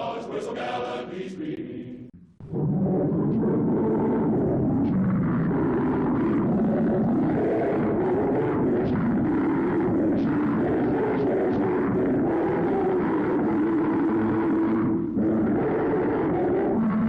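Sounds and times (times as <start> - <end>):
loud rumbling roar: 2.5 - 17.0.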